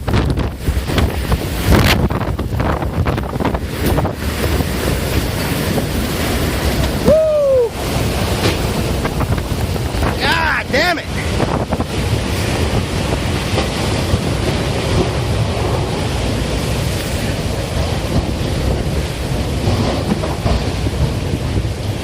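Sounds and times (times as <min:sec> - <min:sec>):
wind buffeting microphone: 0:00.0 - 0:22.0
wind-driven rain hiss: 0:00.0 - 0:22.0.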